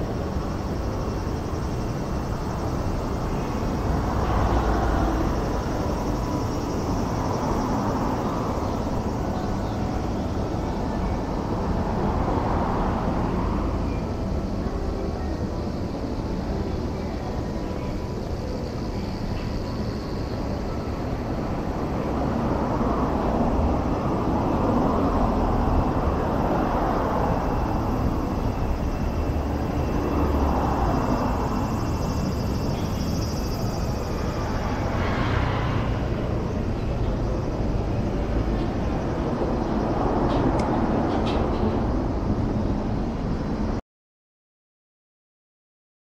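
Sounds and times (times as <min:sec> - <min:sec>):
traffic rumble: 0:00.0 - 0:43.8
vehicles passing: 0:00.0 - 0:43.8.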